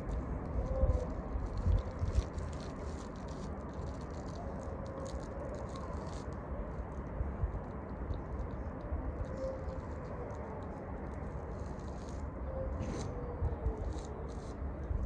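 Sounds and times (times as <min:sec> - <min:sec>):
faint crackling rustles: 0:00.0 - 0:15.0
wind buffeting microphone: 0:00.0 - 0:15.0.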